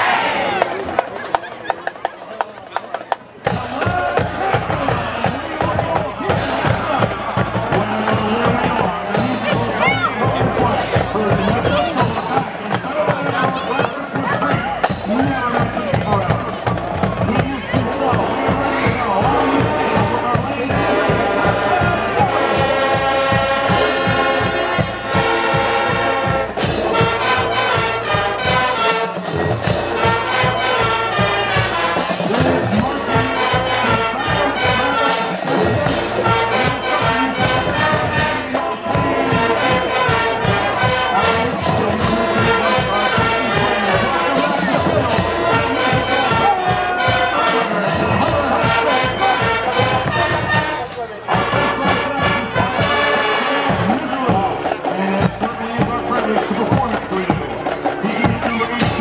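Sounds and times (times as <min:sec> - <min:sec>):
marching band brass playing: 0:00.0 - 0:01.2, 0:01.8 - 0:59.0
steady drum beat: 0:02.8 - 0:59.0.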